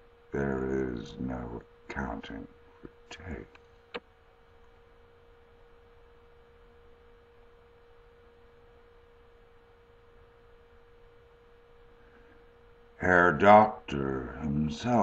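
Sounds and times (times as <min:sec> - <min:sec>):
faint steady tone: 0:00.0 - 0:15.0
low hiss: 0:00.0 - 0:15.0.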